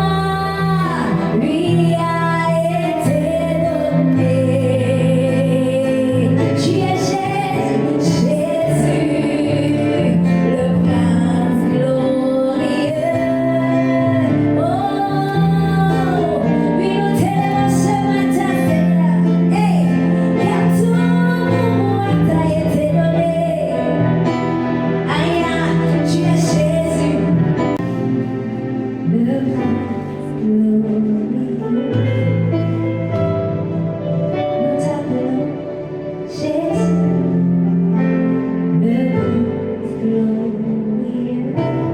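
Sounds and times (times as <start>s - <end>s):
woman singing: 0.0s - 28.2s, 29.0s - 33.1s, 34.5s - 41.9s.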